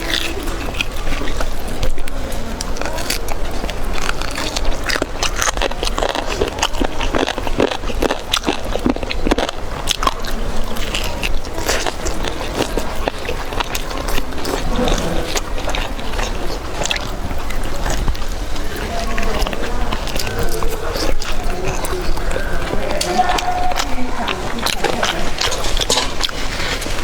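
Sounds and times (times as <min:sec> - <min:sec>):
biting and chewing: 0:00.0 - 0:27.0.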